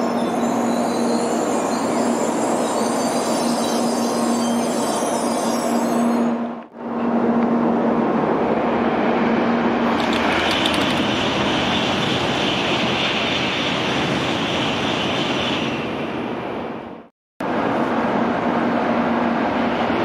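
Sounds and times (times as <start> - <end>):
high-speed train rushing past: 0.0 - 20.0.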